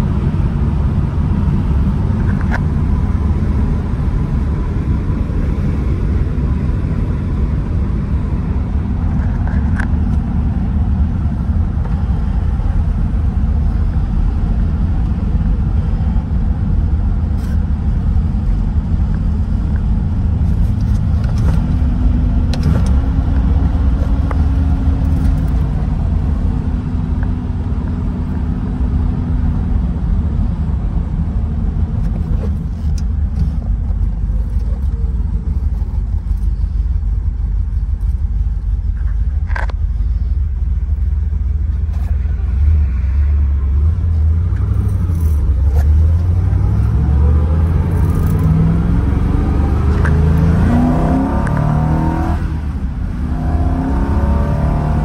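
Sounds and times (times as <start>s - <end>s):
car engine rumbling at cruise: 0.0s - 55.0s.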